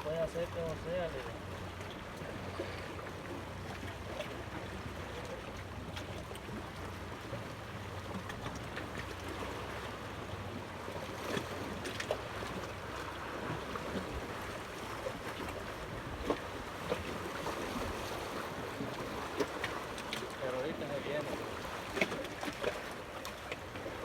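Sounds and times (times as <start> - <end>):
water lapping: 0.0 - 24.0.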